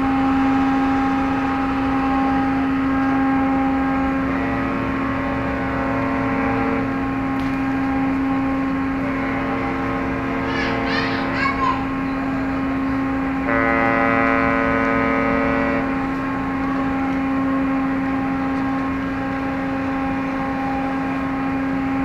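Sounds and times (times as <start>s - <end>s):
ship engines droning: 0.0s - 22.0s
ship's horn blast: 0.0s - 22.0s.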